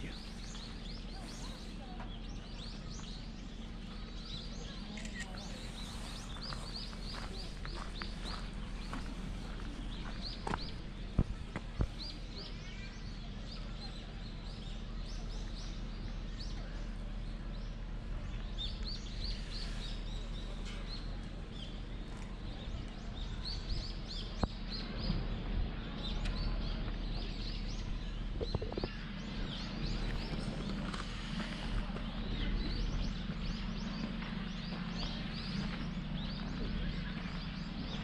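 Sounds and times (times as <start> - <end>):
low background rumble: 0.0 - 38.0
small birds chirping: 0.0 - 38.0.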